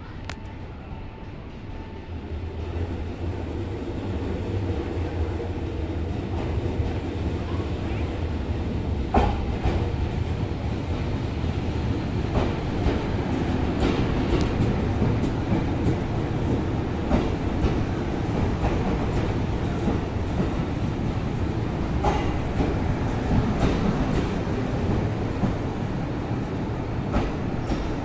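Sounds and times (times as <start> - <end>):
train wheels rumbling on rail: 0.0 - 28.0
clickety-clack over rail joints: 4.0 - 28.0.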